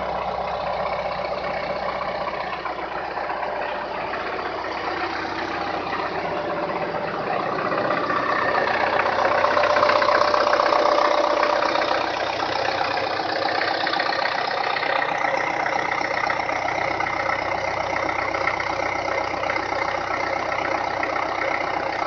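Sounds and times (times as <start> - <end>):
tractor diesel engine idling: 0.0 - 22.0.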